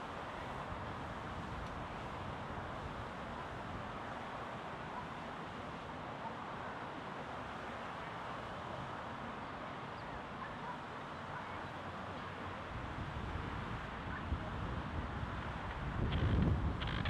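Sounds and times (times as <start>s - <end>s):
background noise wash: 0.0s - 17.0s.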